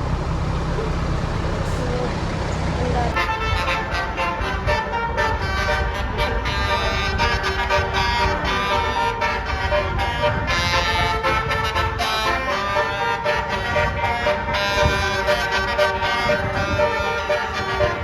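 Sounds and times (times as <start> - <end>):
bus engine rumble: 0.0 - 18.0
musical air horn tune: 3.1 - 18.0.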